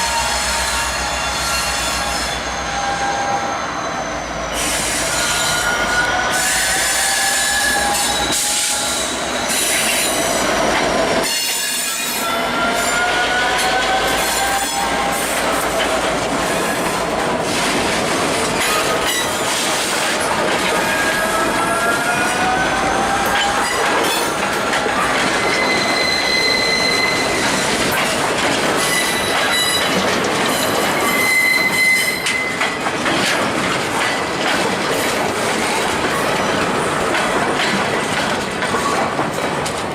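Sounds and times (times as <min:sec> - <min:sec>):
train wheels squealing on rails: 0:00.0 - 0:32.9
rumble of train cars: 0:00.0 - 0:39.9.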